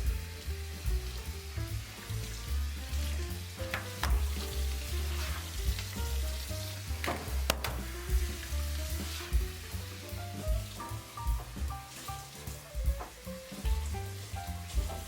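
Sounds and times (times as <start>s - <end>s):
background music with bass line: 0.0s - 15.0s
food sizzling in a pan: 0.0s - 15.0s.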